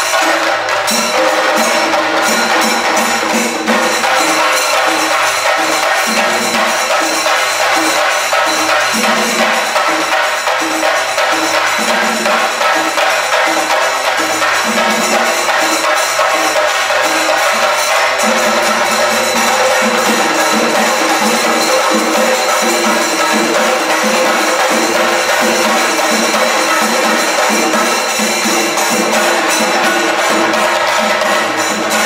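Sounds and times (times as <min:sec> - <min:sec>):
drums beaten with sticks: 0:00.0 - 0:32.0.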